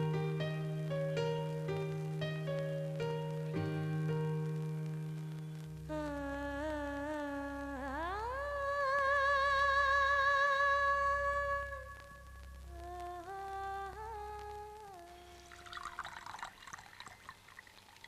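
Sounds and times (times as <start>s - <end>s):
hummed melody: 0.0s - 16.1s.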